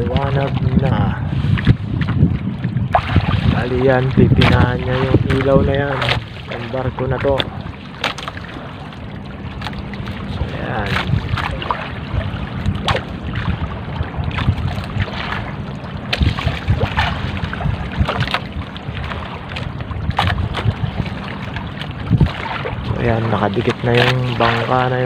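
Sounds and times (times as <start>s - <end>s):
boat engine drone: 0.0s - 25.0s
waves slapping against hull: 0.0s - 25.0s
wind buffeting microphone: 0.0s - 25.0s.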